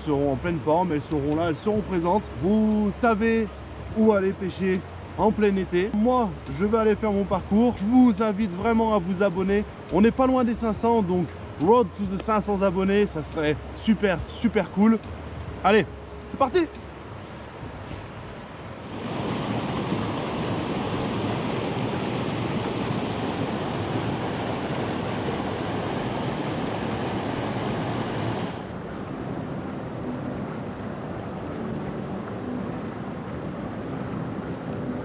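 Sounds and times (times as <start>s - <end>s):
river rapids rushing: 0.0s - 35.0s.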